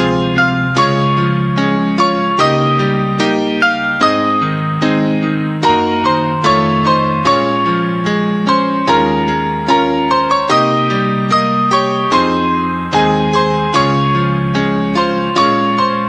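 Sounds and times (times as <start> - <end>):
slow electric piano ballad: 0.0 - 16.0.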